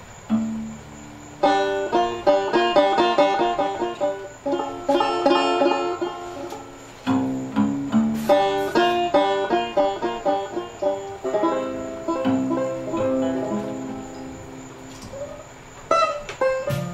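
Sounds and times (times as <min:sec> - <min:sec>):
acoustic guitar accompaniment: 0:00.0 - 0:16.9
banjo picking fast melody: 0:01.4 - 0:14.8, 0:15.9 - 0:16.9.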